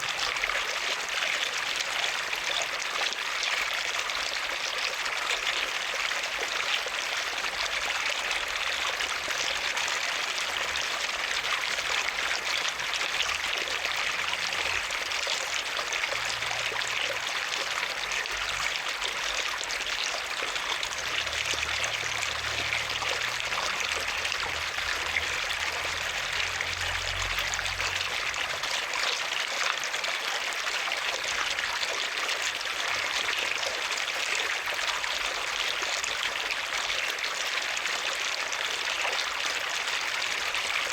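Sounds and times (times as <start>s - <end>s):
water running and splashing: 0.0s - 40.9s.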